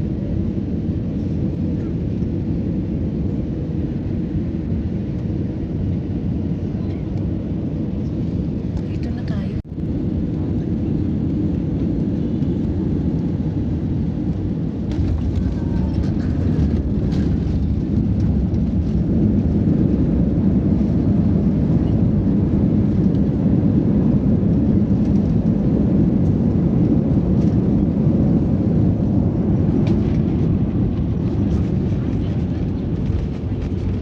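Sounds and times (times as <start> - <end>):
airliner engines rumbling: 0.0 - 34.0.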